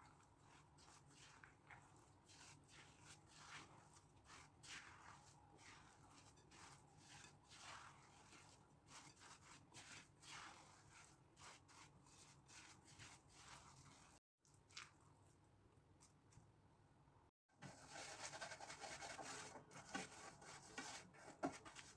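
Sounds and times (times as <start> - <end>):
faint batter mixing scrapes: 0.0 - 16.5, 17.6 - 21.9.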